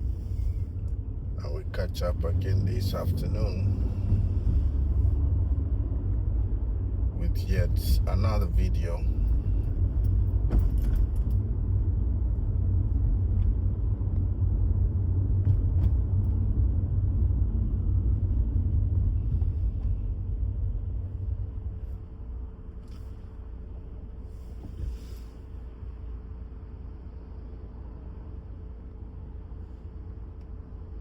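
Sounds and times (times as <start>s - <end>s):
vehicle rumble: 0.0s - 31.0s
faint steady hum: 6.1s - 31.0s.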